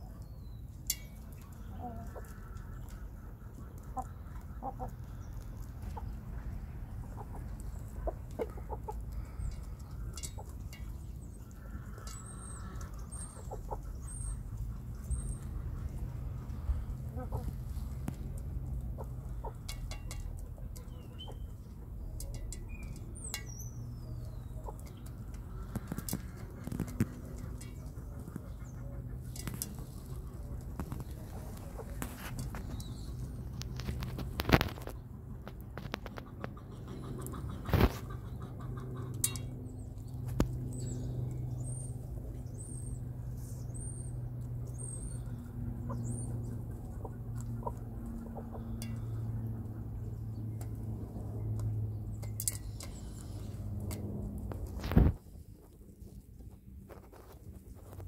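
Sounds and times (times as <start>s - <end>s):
chickens clucking: 0.0s - 58.0s
low background hum: 0.0s - 58.0s
beaks pecking on metal bowl: 0.2s - 35.0s, 35.6s - 55.0s.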